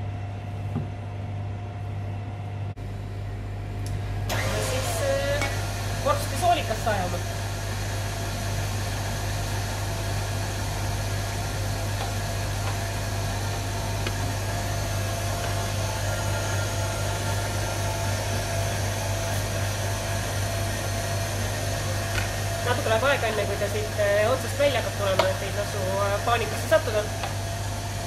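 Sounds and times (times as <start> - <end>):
stand mixer motor humming: 4.0 - 28.0.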